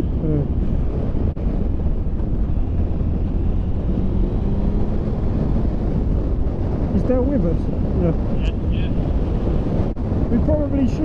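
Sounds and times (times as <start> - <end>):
motorcycle engine drone: 0.0 - 10.4
tyres on road: 0.0 - 11.0
wind buffeting microphone: 0.0 - 11.0.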